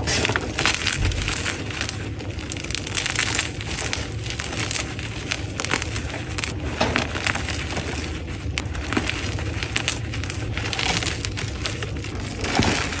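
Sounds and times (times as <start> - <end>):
chalk block crunching: 0.0 - 13.0.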